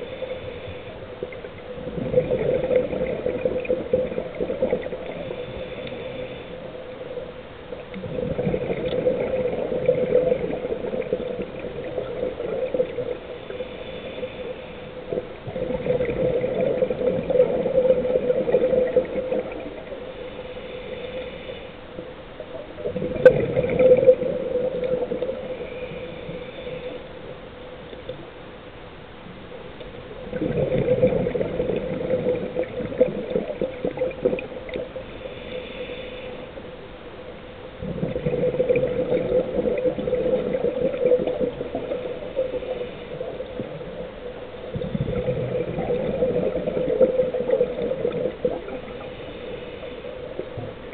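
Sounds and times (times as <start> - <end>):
exhaled bubbles gurgling: 0.0 - 27.4, 29.8 - 50.9
faint steady hum: 0.0 - 50.9.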